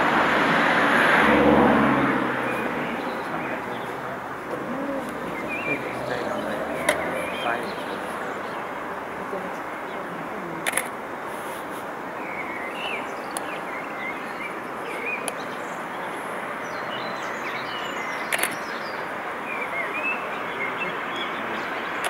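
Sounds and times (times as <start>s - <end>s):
steady outdoor noise: 0.0s - 22.0s
birds chirping: 1.0s - 22.0s.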